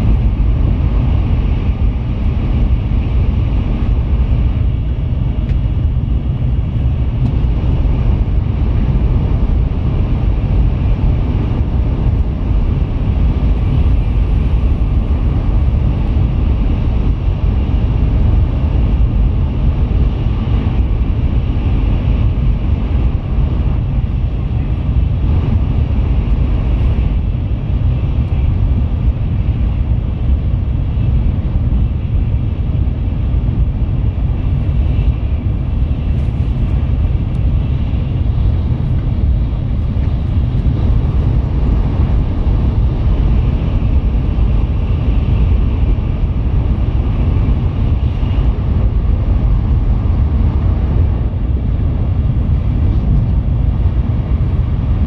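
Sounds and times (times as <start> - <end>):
train cabin rumbling: 0.0 - 55.0.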